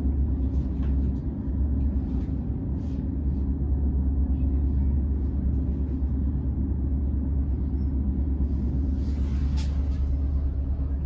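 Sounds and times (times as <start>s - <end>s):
train diesel engine rumble: 0.0s - 11.0s.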